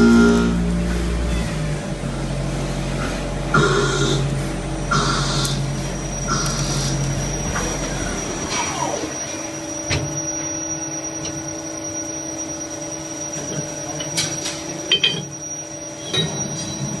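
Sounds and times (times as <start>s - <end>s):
lathe whine and hum: 0.0s - 17.0s.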